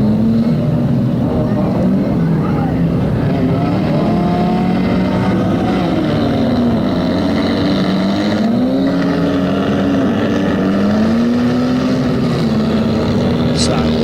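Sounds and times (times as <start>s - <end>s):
racing car engines revving: 0.0s - 14.0s.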